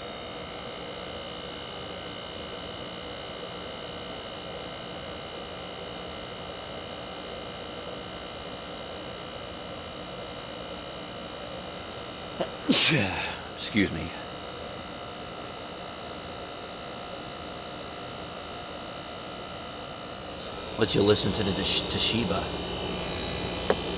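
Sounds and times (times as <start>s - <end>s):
window air conditioner running: 0.0s - 23.9s.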